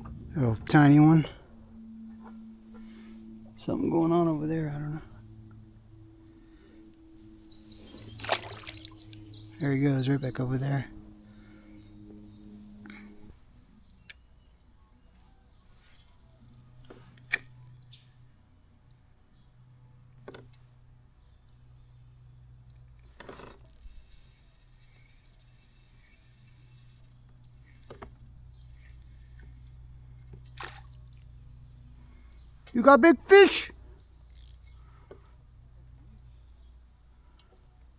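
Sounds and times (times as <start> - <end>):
insect chorus: 0.0 - 37.9.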